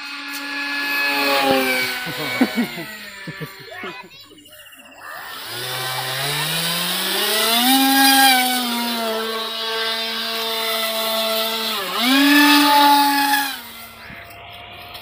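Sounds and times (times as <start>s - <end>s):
electric motor propeller whine: 0.0s - 4.1s, 4.7s - 15.0s.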